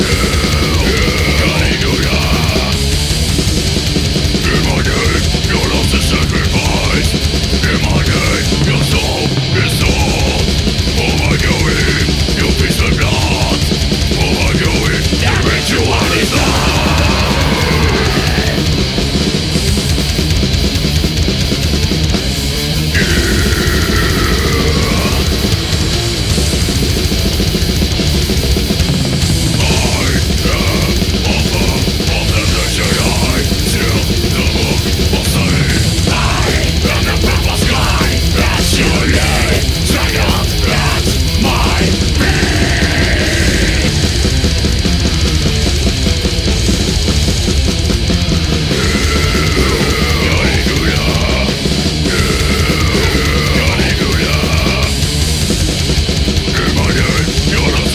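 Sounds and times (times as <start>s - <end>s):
death metal song: 0.0s - 57.9s
high lead guitar sliding: 0.0s - 57.9s.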